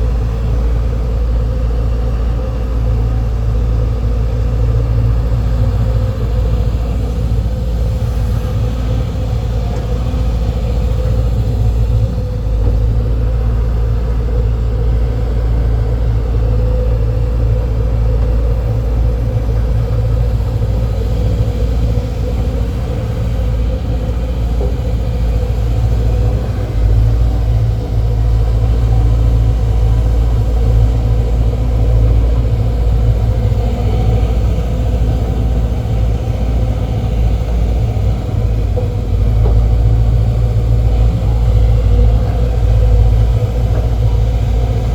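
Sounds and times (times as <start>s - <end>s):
diesel excavator engine rumbling: 0.0s - 44.9s.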